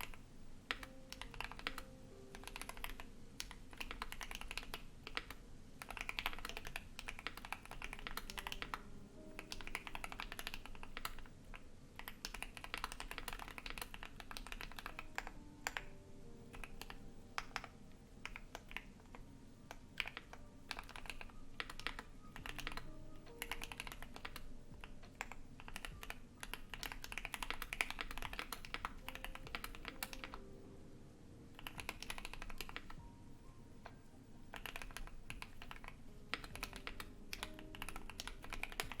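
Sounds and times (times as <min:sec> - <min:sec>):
mechanical keyboard typing: 0:00.0 - 0:30.6, 0:31.5 - 0:33.1, 0:33.8 - 0:39.0
computer low hum: 0:00.0 - 0:39.0.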